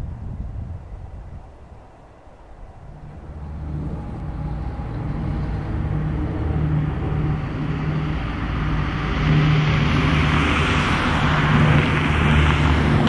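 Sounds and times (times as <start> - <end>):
turboprop aircraft passing overhead: 1.7 - 13.0.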